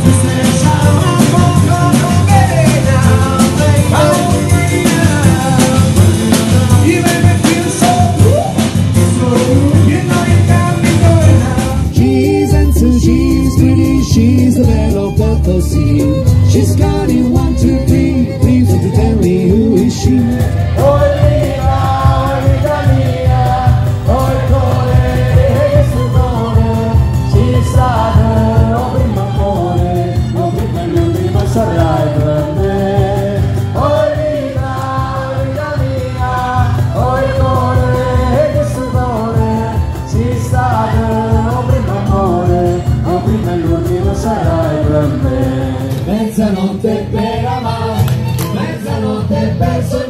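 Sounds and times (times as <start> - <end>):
live band playing a song: 0.0 - 50.0.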